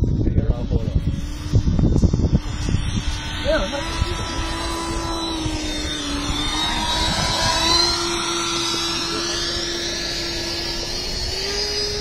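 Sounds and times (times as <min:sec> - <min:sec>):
drone propellers humming: 0:00.0 - 0:12.0
wind rumbling on microphone: 0:00.0 - 0:12.0.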